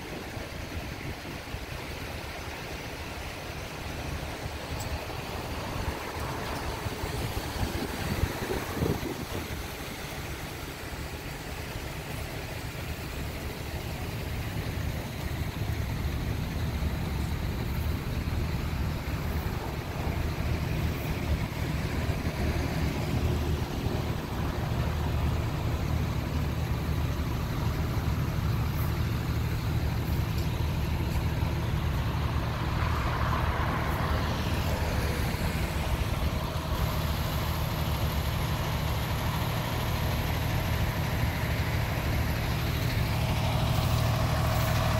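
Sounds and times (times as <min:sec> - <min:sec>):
vehicle engine idling: 0:00.0 - 0:44.9.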